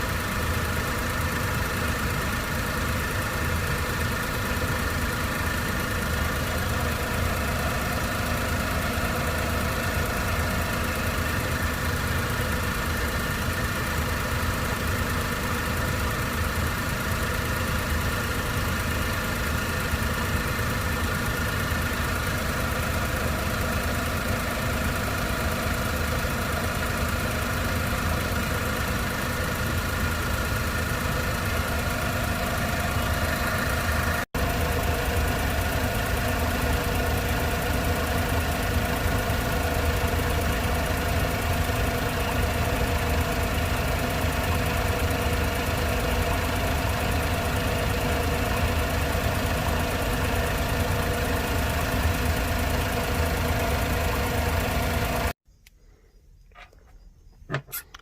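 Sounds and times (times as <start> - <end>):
car engine idling: 0.0 - 55.4.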